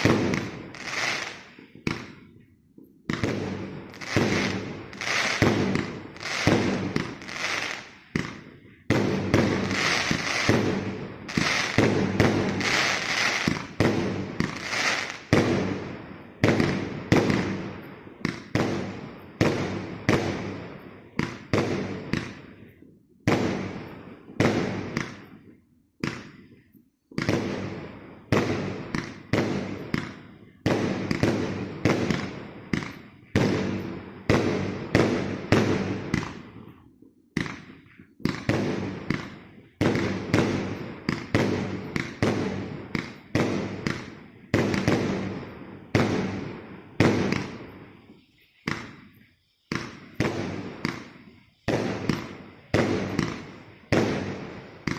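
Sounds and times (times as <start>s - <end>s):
fireworks bangs: 0.0s - 54.9s.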